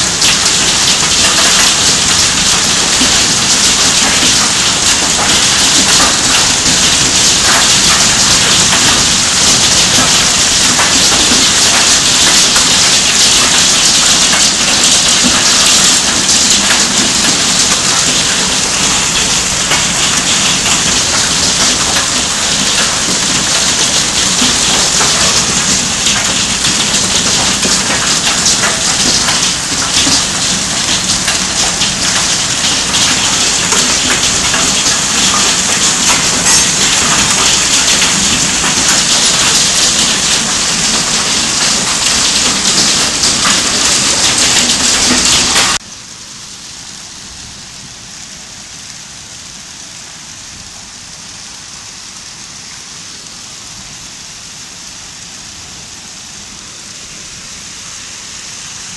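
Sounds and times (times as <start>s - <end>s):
hail and rain pelting the ground: 0.0s - 58.9s.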